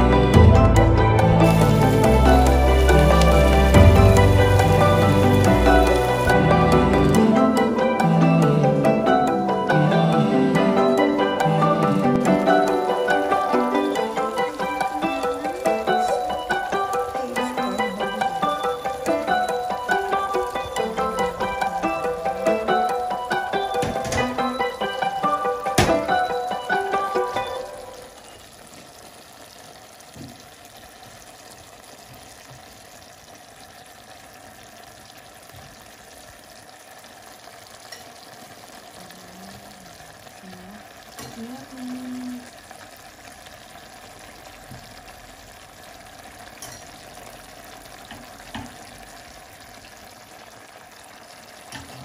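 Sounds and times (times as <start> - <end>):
chicken sizzling in sauce: 0.0 - 52.0.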